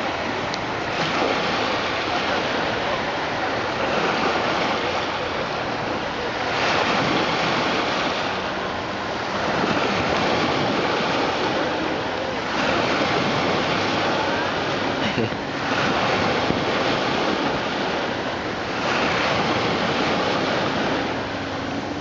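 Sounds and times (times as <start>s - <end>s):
sea waves washing ashore: 0.0s - 22.0s.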